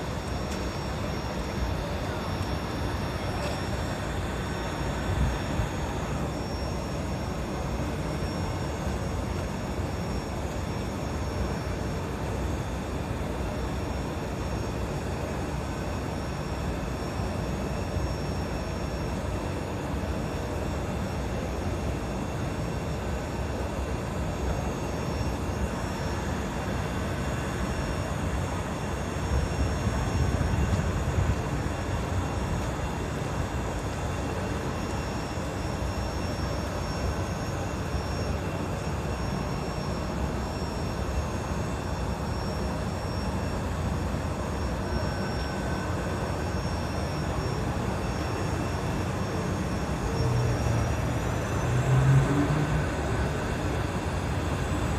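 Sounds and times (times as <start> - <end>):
engine rumbling steadily: 0.0 - 54.9.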